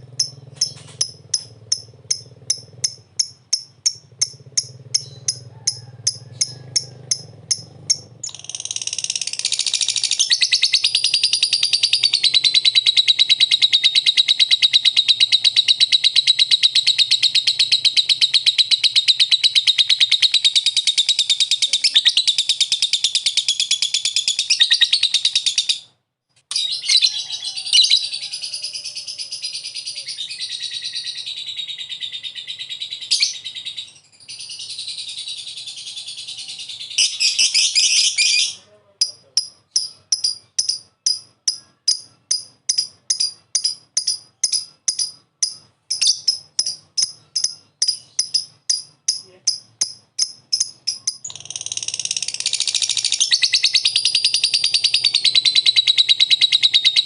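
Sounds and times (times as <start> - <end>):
bird chattering trill: 0.0 - 25.9, 26.5 - 57.0.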